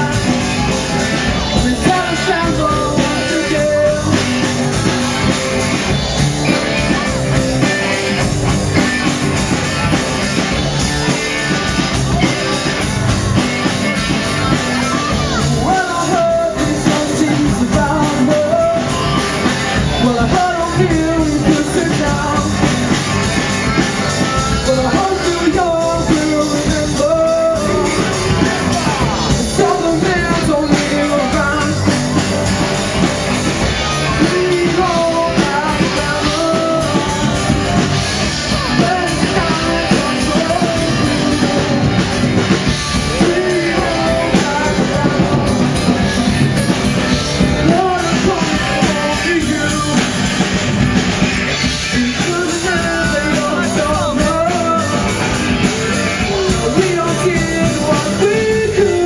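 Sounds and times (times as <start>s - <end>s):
drums: 0.0s - 59.0s
electric bass: 0.0s - 59.0s
electric guitar: 0.0s - 59.0s
young man singing: 0.0s - 59.0s.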